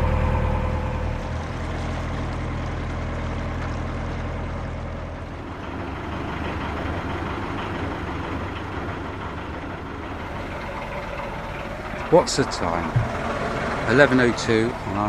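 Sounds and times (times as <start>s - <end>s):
boat engine running: 0.0s - 3.5s, 5.1s - 15.0s.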